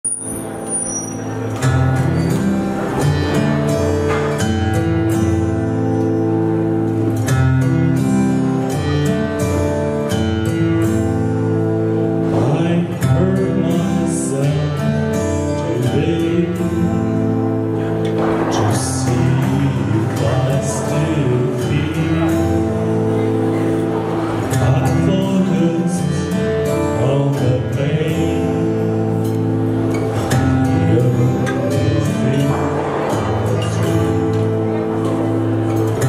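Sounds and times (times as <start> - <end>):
song accompaniment with bass and beat: 0.1 - 36.0.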